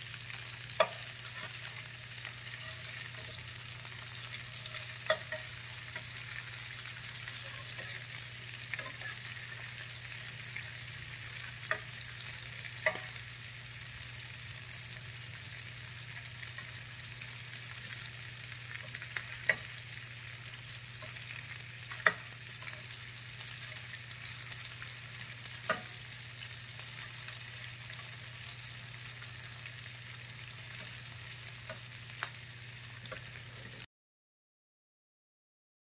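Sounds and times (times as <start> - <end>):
chicken wings sizzling in oil: 0.0 - 33.9.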